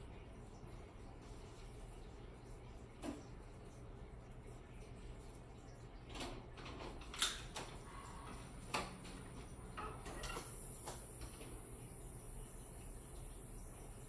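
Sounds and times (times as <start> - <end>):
faint low room hum: 0.0 - 14.0.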